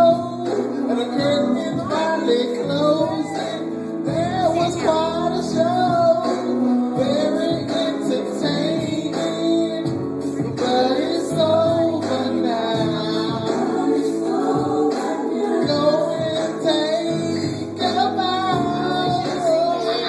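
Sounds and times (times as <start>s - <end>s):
instrumental backing music: 0.0s - 20.0s.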